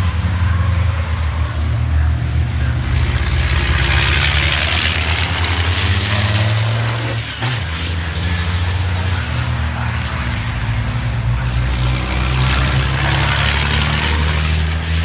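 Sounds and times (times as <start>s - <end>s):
diesel truck engine running hard: 0.0s - 15.0s.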